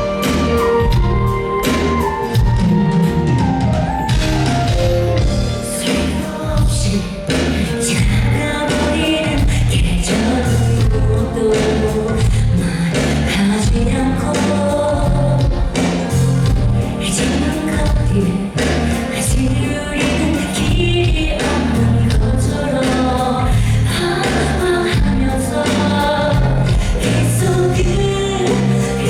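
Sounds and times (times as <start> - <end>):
live band with heavy bass: 0.0 - 29.0
woman singing lead: 0.0 - 29.0.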